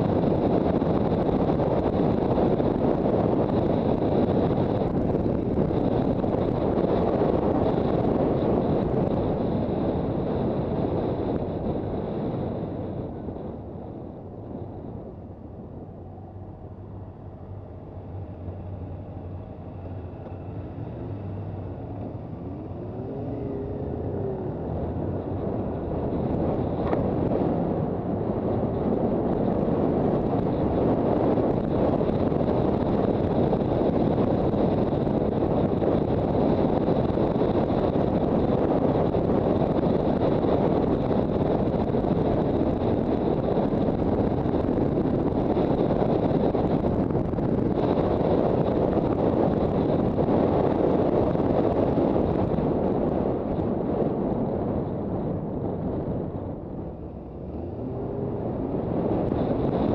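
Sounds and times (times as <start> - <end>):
motorcycle engine humming: 0.0 - 59.9
wind rushing over microphone: 0.0 - 59.9.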